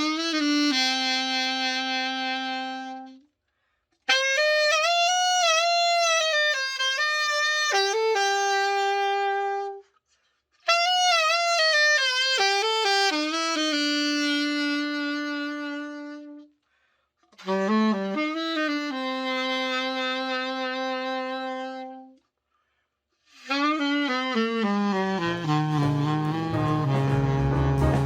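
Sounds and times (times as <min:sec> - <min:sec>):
solo alto saxophone: 0:00.0 - 0:03.4, 0:04.0 - 0:10.0, 0:10.6 - 0:16.6, 0:17.3 - 0:22.3, 0:23.2 - 0:28.0.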